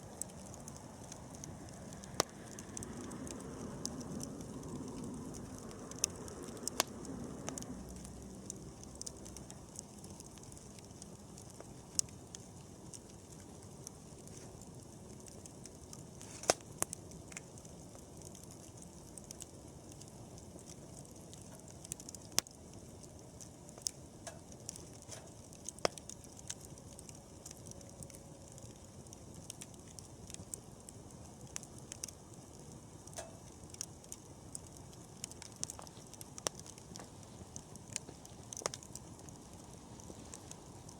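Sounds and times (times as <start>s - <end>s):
campfire crackling and popping: 0.0s - 40.9s
hiss of flames: 0.0s - 40.9s.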